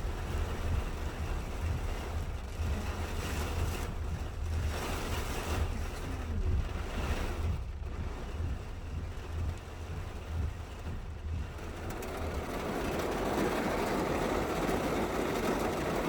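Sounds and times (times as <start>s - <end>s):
steady rain falling: 0.0s - 16.0s
wind rumble on microphone: 0.0s - 16.0s.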